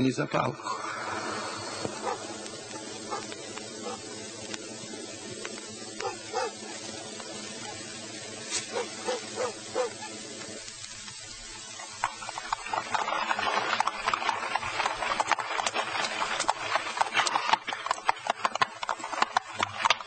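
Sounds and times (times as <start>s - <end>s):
horse hooves clip-clopping: 1.1s - 20.0s.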